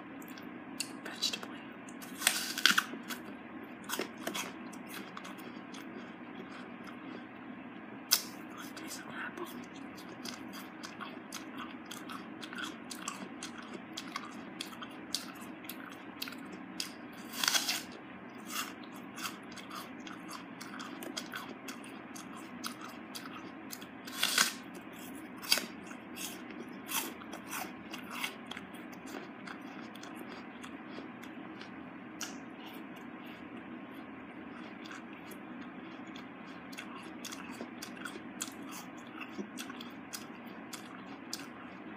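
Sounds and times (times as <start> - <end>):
apple crunching and chewing: 0.2 - 7.5, 8.1 - 41.9.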